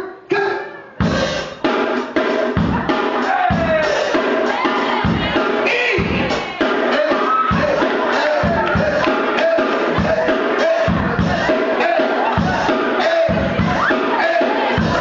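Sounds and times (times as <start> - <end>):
hip-hop beat melody: 0.4 - 15.0
heavy kick drum: 1.0 - 15.0.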